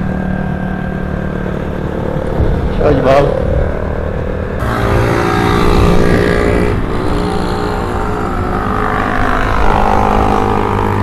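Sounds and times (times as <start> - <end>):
motorcycle engine accelerating: 0.0 - 11.0
wind rumble on microphone: 0.0 - 11.0.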